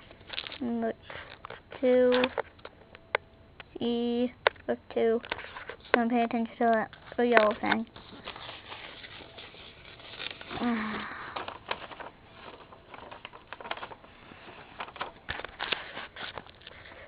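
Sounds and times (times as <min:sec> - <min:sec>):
paper pages rustling: 0:00.0 - 0:02.7, 0:05.2 - 0:06.2, 0:06.8 - 0:17.0.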